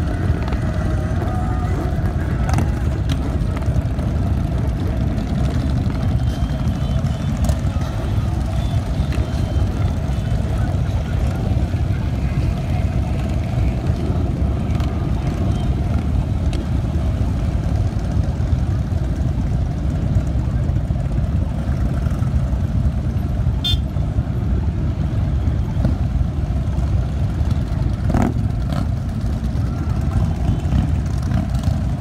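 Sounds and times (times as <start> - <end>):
motorcycles riding past: 0.0 - 32.0.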